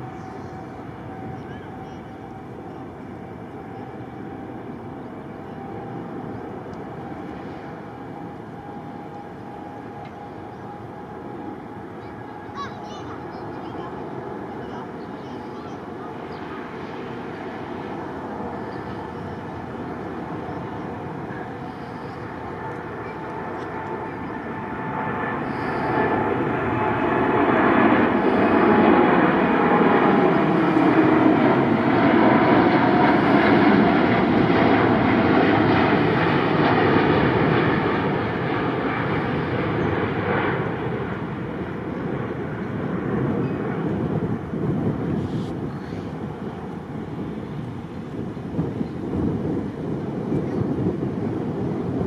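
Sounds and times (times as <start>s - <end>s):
airliner engine noise: 0.0s - 52.0s.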